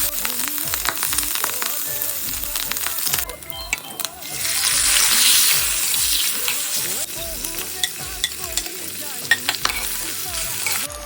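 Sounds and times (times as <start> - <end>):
sharp pops and ticks: 0.0 - 10.0
food sizzling in a pan: 0.0 - 11.0.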